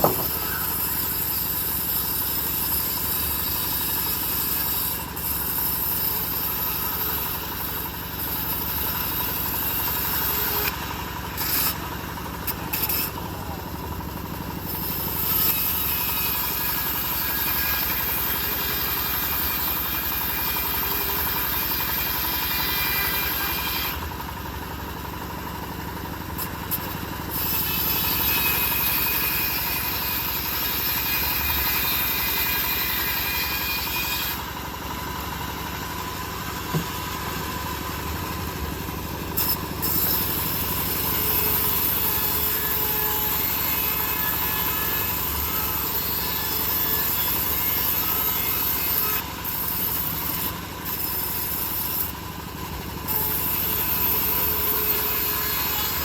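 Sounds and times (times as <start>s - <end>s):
bandsaw mill running: 0.0s - 56.0s.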